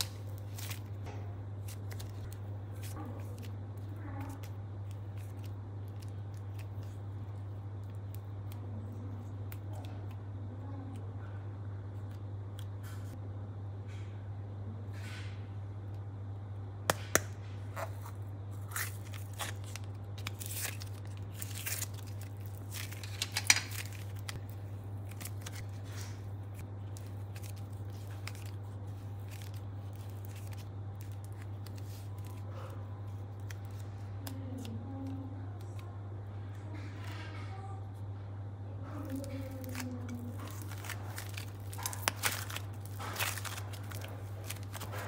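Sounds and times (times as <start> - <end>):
modelling clay squishing: 0.0 - 11.2, 16.9 - 35.9, 38.8 - 45.0.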